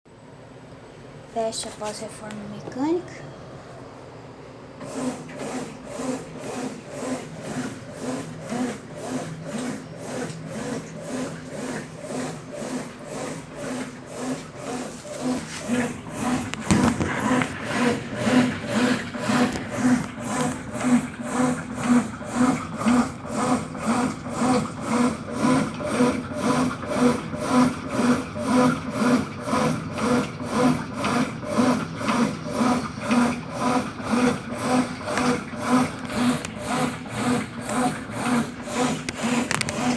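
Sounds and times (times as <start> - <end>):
washing machine agitating rhythmically: 4.7 - 39.9.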